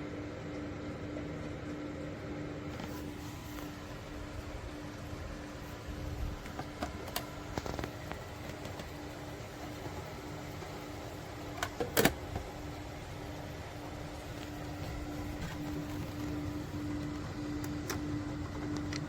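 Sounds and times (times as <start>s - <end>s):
humidifier pulsing hum: 0.0s - 19.0s.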